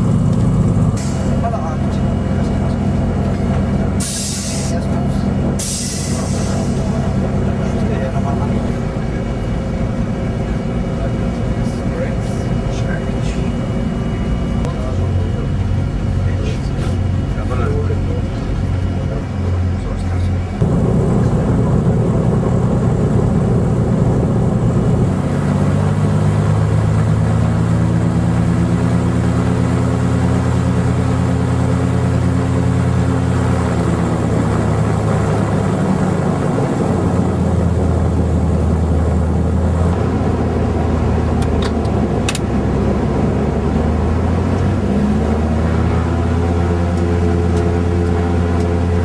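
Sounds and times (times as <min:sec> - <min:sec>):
piston aircraft engines running: 0:00.0 - 0:49.0.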